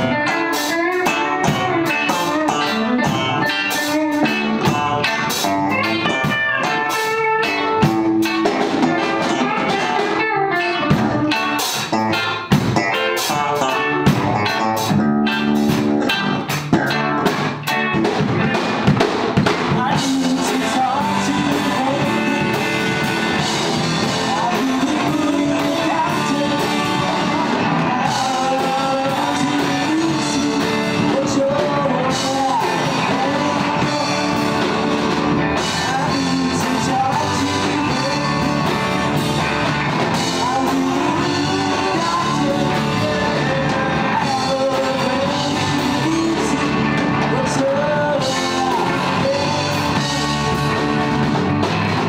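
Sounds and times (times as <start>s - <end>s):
man singing: 0.0s - 17.1s, 19.5s - 51.3s
drum kit: 0.0s - 52.0s
electric guitars: 0.0s - 52.0s.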